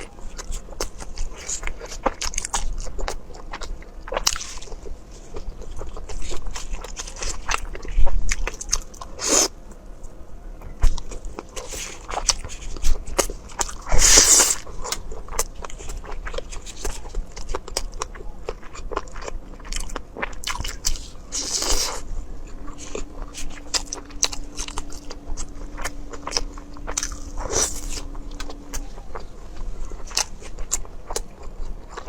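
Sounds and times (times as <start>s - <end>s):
person chewing crunchy food: 0.0s - 9.8s, 10.6s - 32.0s.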